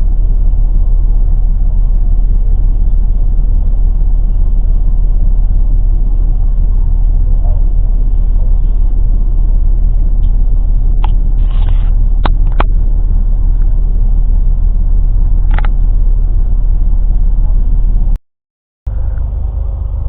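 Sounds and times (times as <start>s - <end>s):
loud low rumble: 0.0s - 18.2s, 18.9s - 20.0s.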